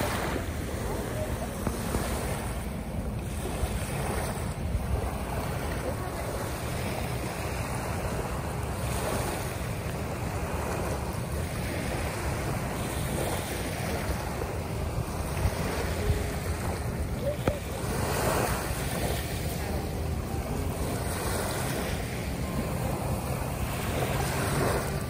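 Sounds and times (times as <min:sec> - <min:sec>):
waves washing onto pebbly shore: 0:00.0 - 0:25.0
wind buffeting microphone: 0:00.0 - 0:25.0.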